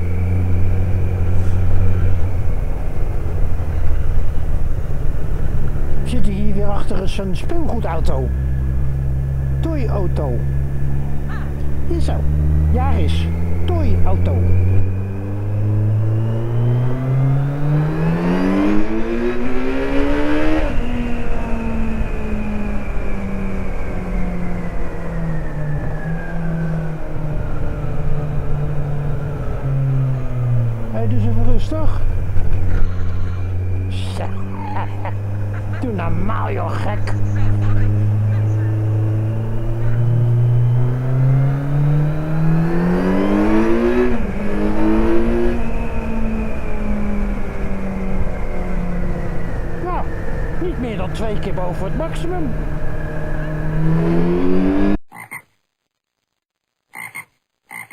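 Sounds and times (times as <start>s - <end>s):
motorcycle engine accelerating: 0.0s - 55.3s.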